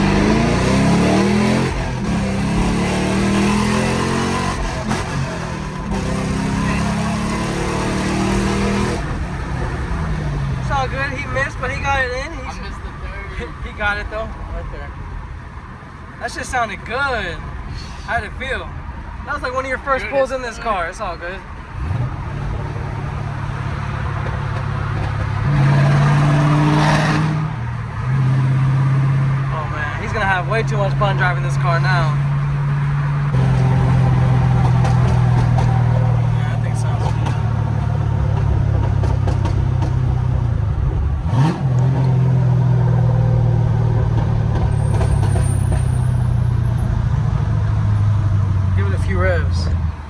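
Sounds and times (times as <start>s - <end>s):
car engine exhaust drone: 0.0s - 50.0s.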